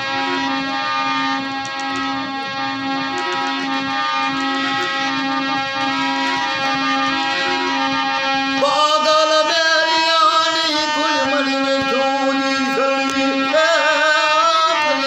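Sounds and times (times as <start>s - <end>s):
steady drone: 0.0s - 15.0s
wavering melody: 0.0s - 15.0s.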